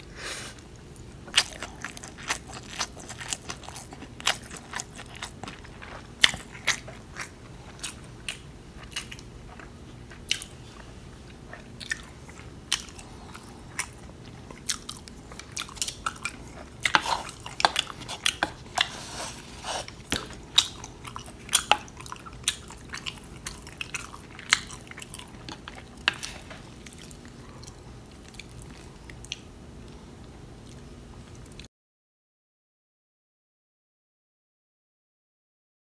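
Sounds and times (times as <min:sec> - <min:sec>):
faint steady hum: 0:00.0 - 0:31.7
biting and chewing: 0:01.0 - 0:31.7.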